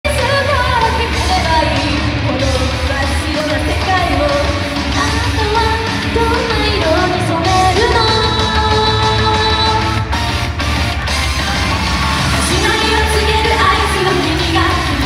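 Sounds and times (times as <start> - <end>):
pop backing track with heavy bass: 0.0 - 15.0
women singing: 0.1 - 10.0, 12.2 - 15.0.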